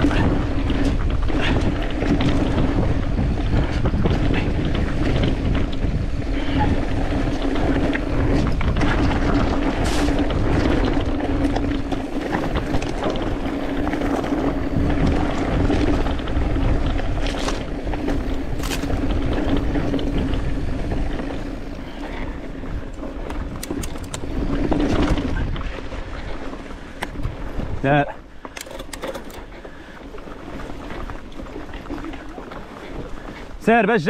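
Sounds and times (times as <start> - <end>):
wind on microphone: 0.0 - 33.6
bike rattling over rocks: 0.0 - 34.0
tyres rumbling over dirt and stones: 0.0 - 34.0.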